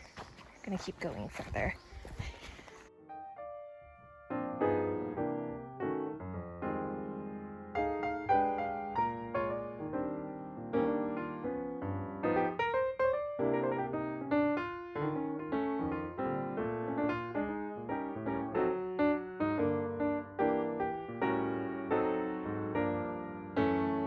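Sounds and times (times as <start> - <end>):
gentle piano melody: 2.6 - 24.0.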